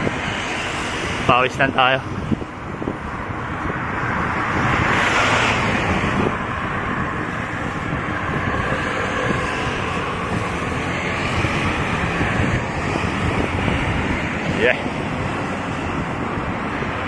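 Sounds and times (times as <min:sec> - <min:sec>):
road traffic: 0:00.0 - 0:17.0
wind noise on microphone: 0:00.0 - 0:17.0.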